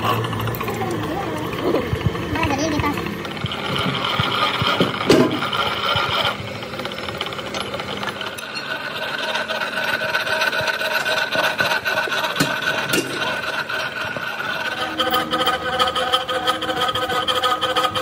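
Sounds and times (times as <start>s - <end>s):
machine humming and rattling: 0.0s - 18.0s.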